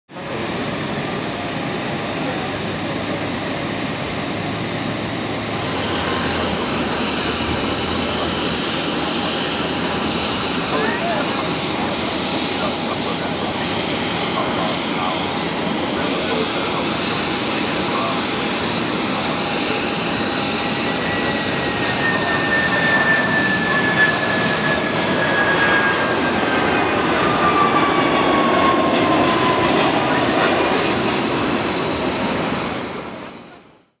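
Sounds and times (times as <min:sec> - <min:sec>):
jet engines rumbling and whining: 0:00.1 - 0:34.0.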